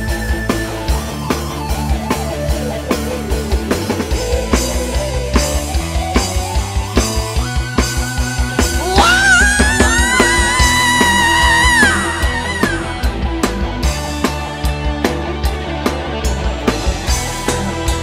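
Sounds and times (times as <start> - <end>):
band playing instrumental: 0.0 - 18.0
drum kit beating: 0.0 - 18.0.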